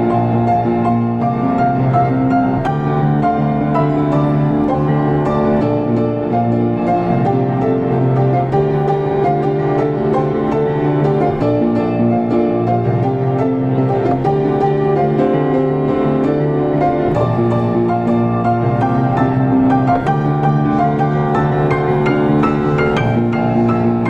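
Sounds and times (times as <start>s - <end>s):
solo grand piano: 0.0s - 24.0s.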